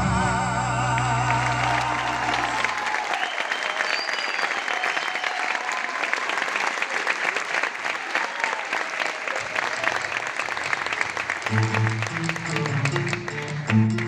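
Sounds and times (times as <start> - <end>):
audience clapping: 1.0 - 14.0.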